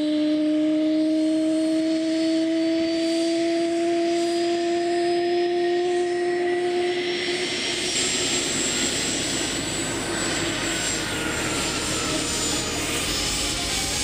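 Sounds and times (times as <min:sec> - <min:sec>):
high thin engine whine: 0:00.0 - 0:14.0
jet engines running: 0:00.0 - 0:14.0.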